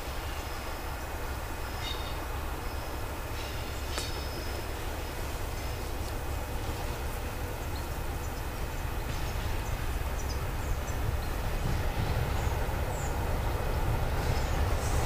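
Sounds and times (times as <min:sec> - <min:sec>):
approaching train rumble: 0:00.0 - 0:15.0
birds chirping: 0:00.4 - 0:15.0.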